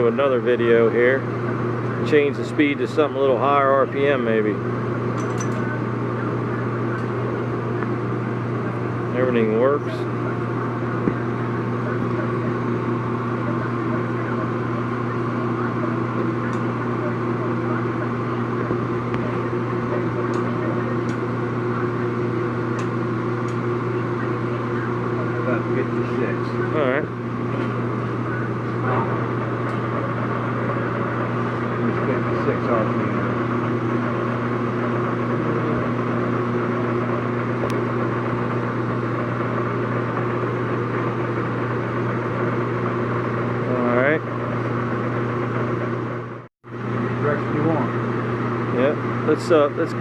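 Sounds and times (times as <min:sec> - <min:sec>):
lathe motor and gearbox hum: 0:00.0 - 0:50.0.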